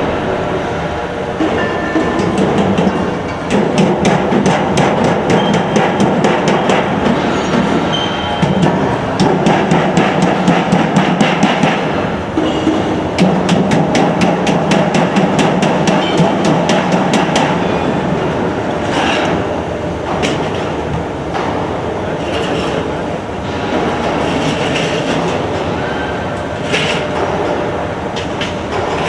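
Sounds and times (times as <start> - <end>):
machinery clattering: 0.0 - 29.0.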